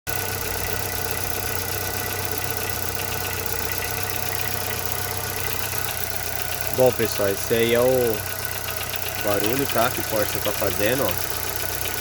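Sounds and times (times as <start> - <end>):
car engine idling with ticking: 0.1 - 12.0.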